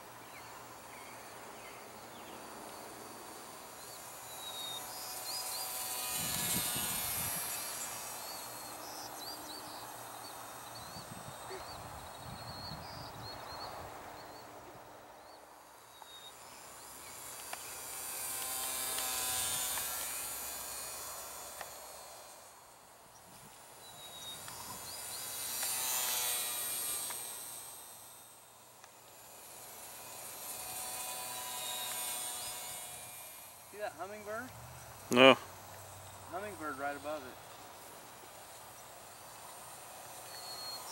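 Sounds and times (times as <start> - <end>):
model plane motor buzzing: 0.0 - 40.9.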